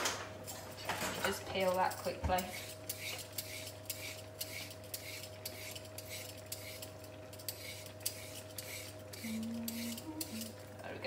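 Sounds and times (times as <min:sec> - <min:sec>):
steady low hum: 0:00.1 - 0:11.0
peeler scraping carrot: 0:01.6 - 0:10.6.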